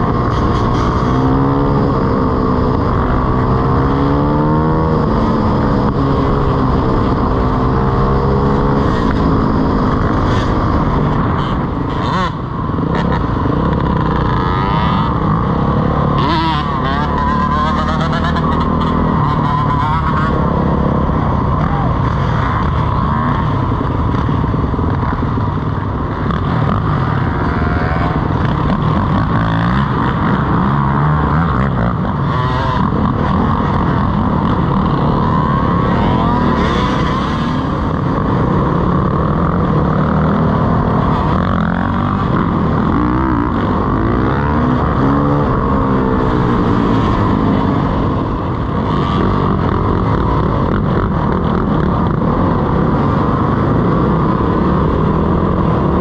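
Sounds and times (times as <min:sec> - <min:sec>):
dirt bike engine revving: 0:00.0 - 0:56.0
other dirt bikes revving: 0:00.0 - 0:56.0.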